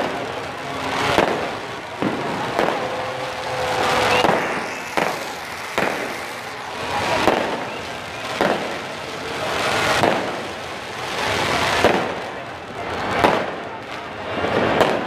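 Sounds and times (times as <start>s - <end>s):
dense rushing noise: 0.0s - 15.0s
fireworks bangs: 0.0s - 15.0s.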